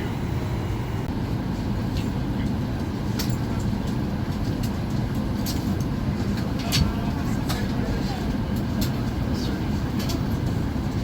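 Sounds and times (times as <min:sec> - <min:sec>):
cabin air supply rumble: 0:00.0 - 0:11.0.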